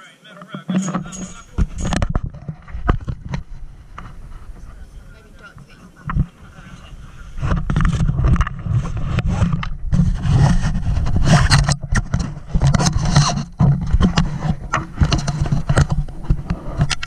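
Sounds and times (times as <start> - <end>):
microphone handling noise: 0.4 - 17.0.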